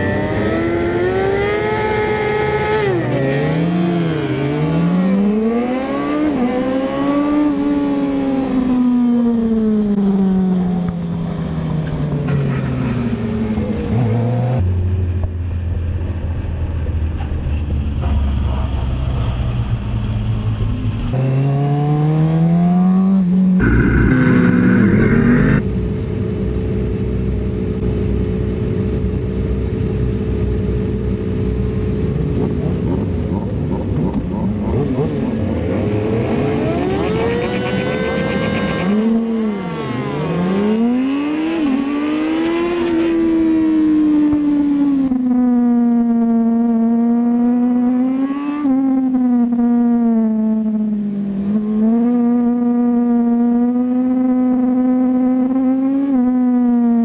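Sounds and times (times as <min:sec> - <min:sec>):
motorcycle engine revving: 0:00.0 - 0:15.1, 0:21.1 - 0:57.0.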